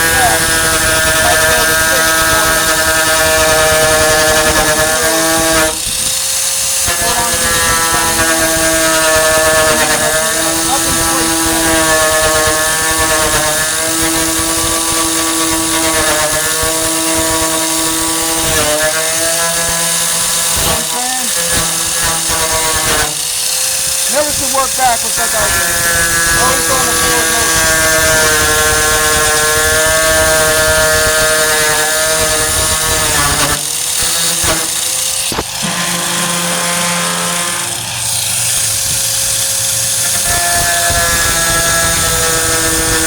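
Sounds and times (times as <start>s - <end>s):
angle grinder cutting sheet metal: 0.0s - 43.0s.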